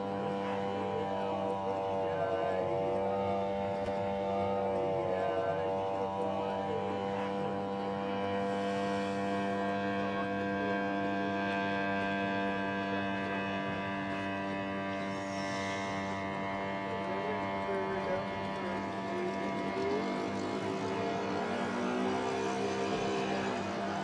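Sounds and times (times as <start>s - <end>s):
model airplane motor droning: 0.0s - 24.0s.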